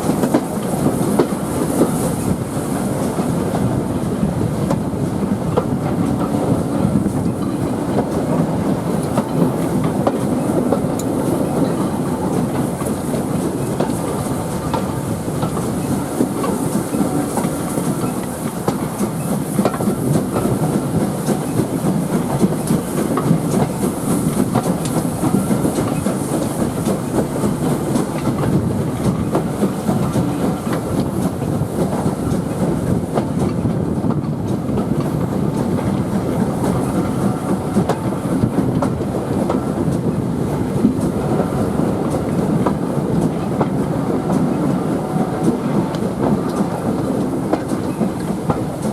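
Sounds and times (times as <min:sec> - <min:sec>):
carriage wheels rumbling on rails: 0:00.0 - 0:48.9.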